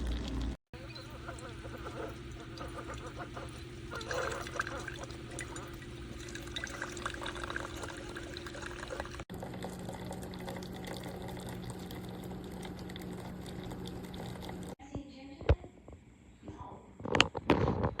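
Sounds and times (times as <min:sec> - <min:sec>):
coffee machine hum: 0:00.0 - 0:14.8
liquid streaming into a cup: 0:00.0 - 0:14.8.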